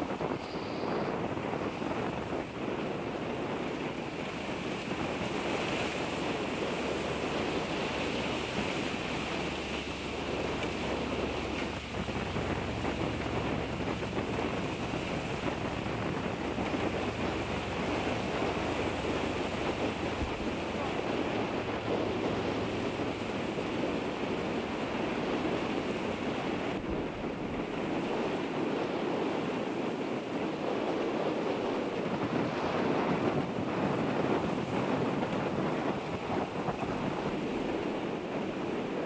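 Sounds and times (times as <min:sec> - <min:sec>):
waves washing onto shingle: 0:00.0 - 0:39.0
wind on microphone: 0:00.0 - 0:39.0.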